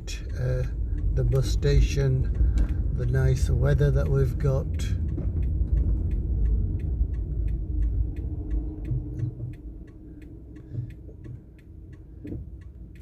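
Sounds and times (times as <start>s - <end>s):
car turn indicator ticking: 0.0s - 13.0s
low engine rumble: 0.0s - 13.0s.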